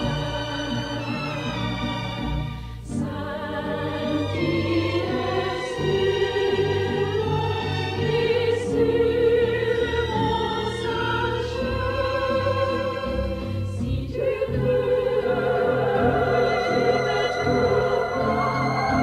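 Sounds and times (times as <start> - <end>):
orchestral music: 0.0 - 19.0.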